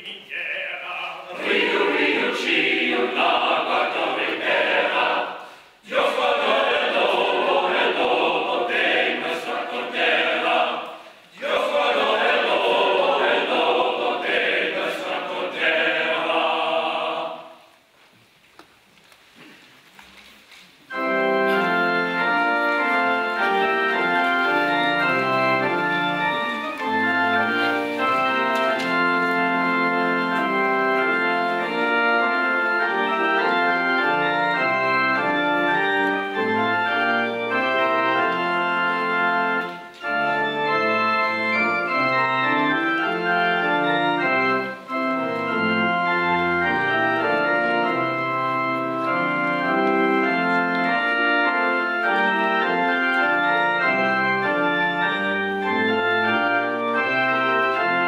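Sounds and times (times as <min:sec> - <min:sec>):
organ playing chords: 0:01.2 - 0:17.6, 0:20.9 - 0:58.0.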